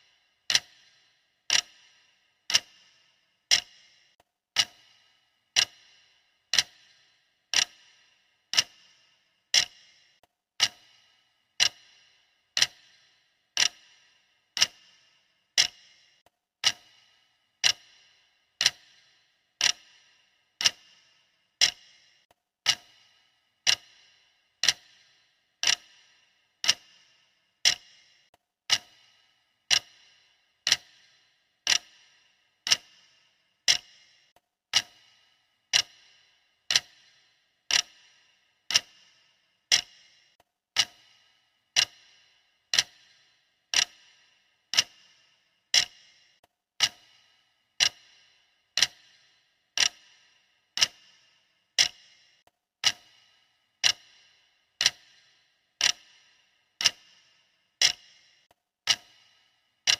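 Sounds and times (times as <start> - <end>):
timer ticking: 0.0 - 59.9.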